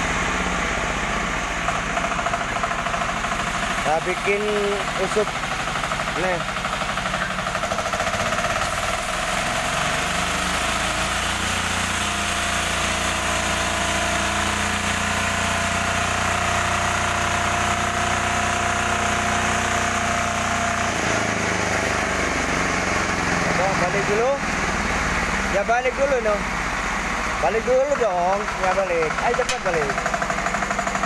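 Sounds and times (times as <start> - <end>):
band sawmill cutting a log: 0.0 - 31.0.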